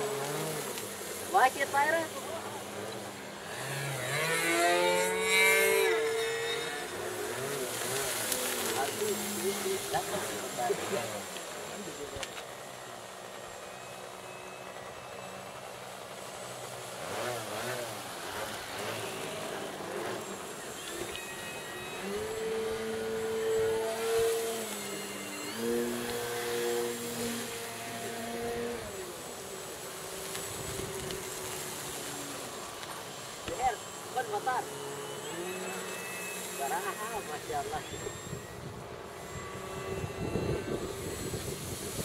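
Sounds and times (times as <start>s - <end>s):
electric model plane motor droning: 0.0s - 42.0s
streamers fluttering buzz: 0.0s - 42.0s.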